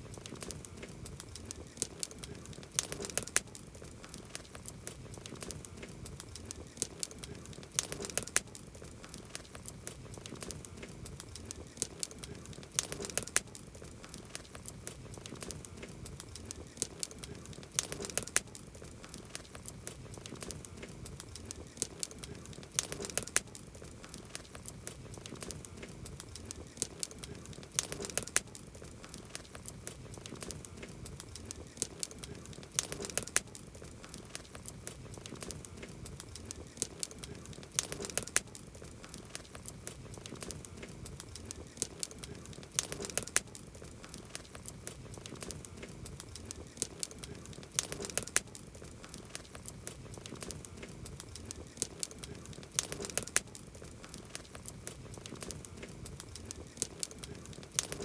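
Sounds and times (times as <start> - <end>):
campfire crackling and popping: 0.0 - 58.0
low fire rumble: 0.0 - 58.0.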